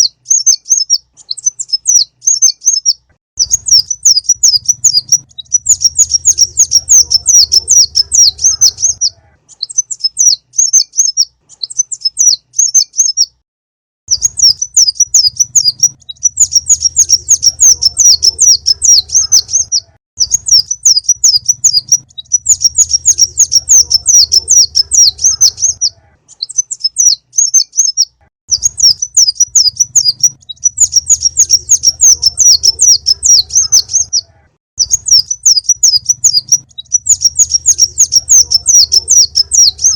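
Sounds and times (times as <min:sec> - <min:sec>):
sunbird chirping: 0:00.0 - 0:13.4, 0:14.1 - 0:39.9.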